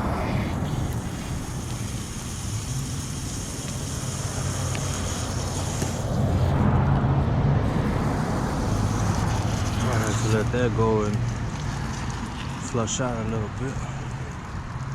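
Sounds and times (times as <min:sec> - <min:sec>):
pressurised water spraying: 0:00.0 - 0:06.6, 0:07.6 - 0:14.9.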